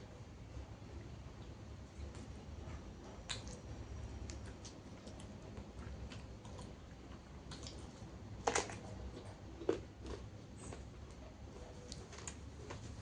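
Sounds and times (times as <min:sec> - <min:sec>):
crunching and chewing vegetables: 0:01.4 - 0:13.0.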